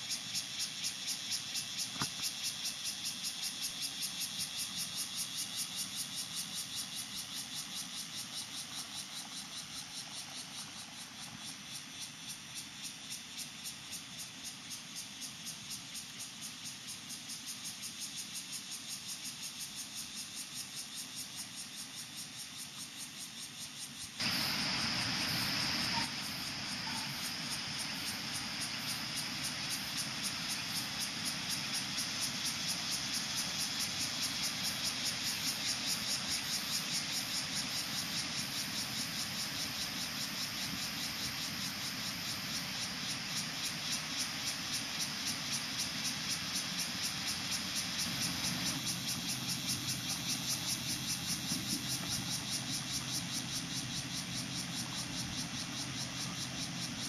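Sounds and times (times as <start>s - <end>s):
pulsing insect chorus: 0.0s - 57.0s.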